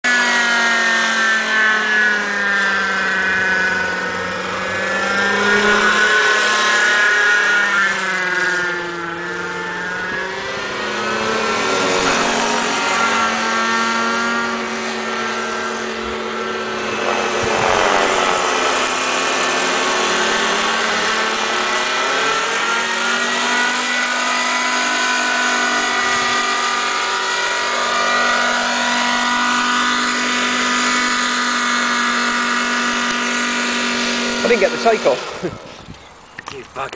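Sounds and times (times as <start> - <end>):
model helicopter engine whine: 0.0 - 36.9.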